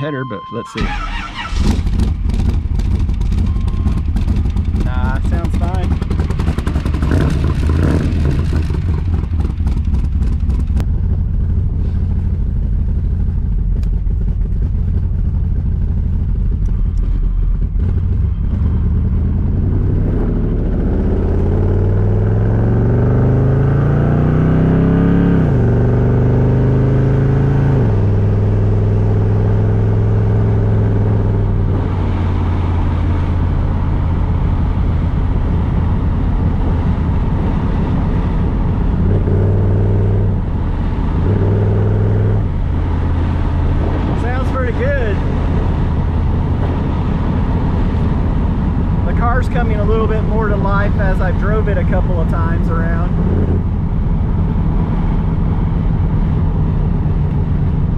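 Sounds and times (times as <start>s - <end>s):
car engine accelerating through gears: 0.8s - 57.9s.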